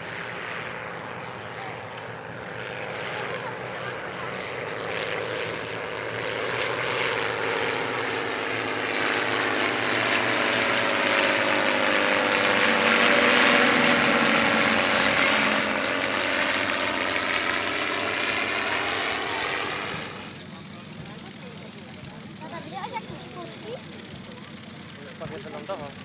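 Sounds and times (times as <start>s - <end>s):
propeller planes flying past: 0.0s - 26.0s.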